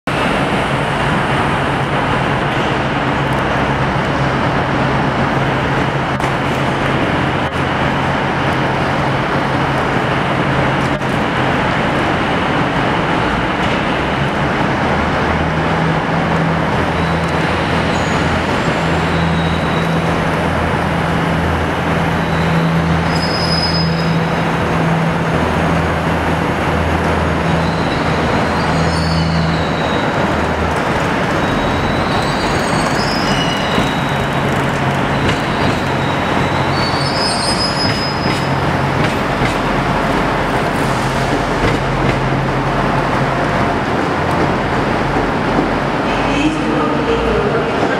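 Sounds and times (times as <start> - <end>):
low hum from standing trains: 0.1 - 47.9.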